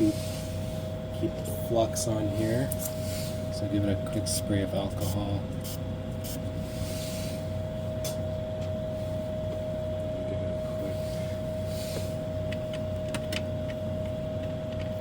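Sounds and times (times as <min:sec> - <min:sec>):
background hum with whine: 0:00.0 - 0:15.0.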